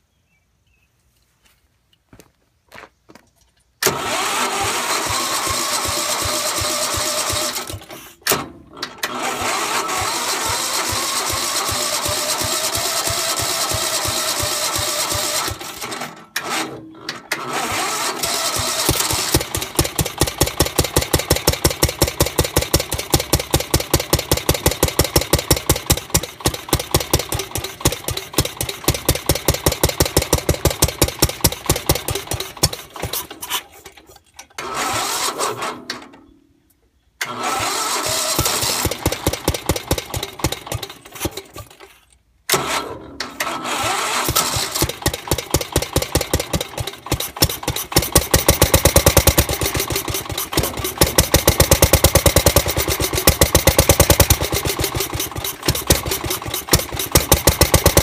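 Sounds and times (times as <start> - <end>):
single-cylinder engine pulsing: 3.8 - 8.4, 9.0 - 34.0, 37.2 - 41.8, 43.4 - 58.0.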